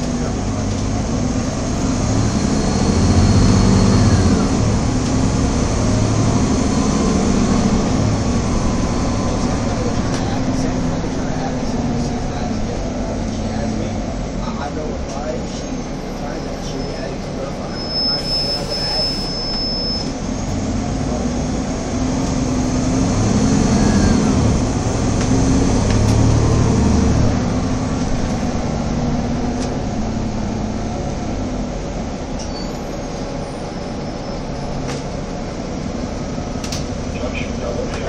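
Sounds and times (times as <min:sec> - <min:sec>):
bus engine drone: 0:00.0 - 0:38.0
road rumble: 0:00.0 - 0:38.0.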